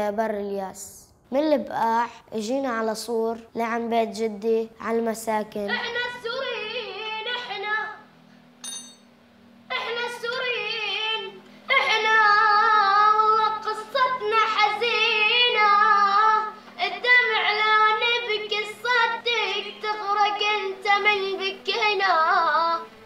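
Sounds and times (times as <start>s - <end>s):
boy singing: 1.3s - 8.0s, 9.7s - 22.9s.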